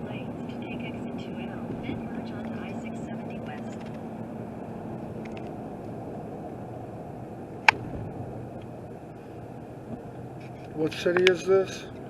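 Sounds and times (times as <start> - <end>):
road and engine noise: 0.0 - 12.0.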